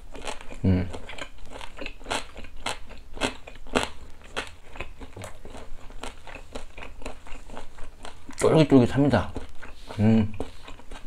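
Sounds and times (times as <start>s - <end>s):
person chewing wetly: 0.0s - 11.0s.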